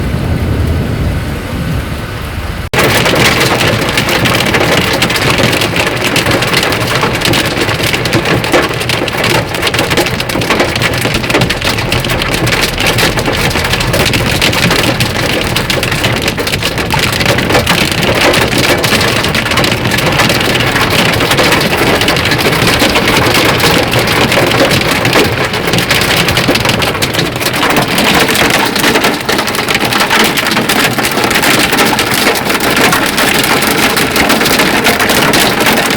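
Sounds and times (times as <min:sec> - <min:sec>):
heavy rain on hard surfaces: 0:00.0 - 0:35.9.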